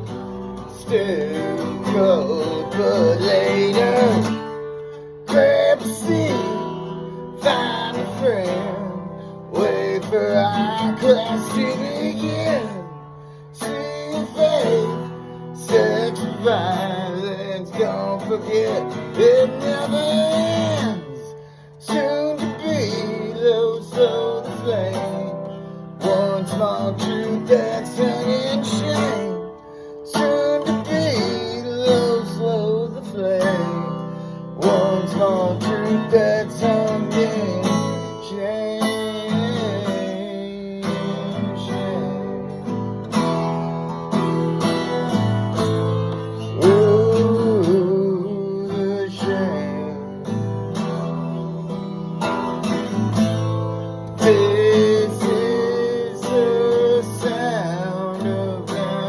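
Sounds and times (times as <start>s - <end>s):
strummed acoustic guitar chords: 0.0s - 59.0s.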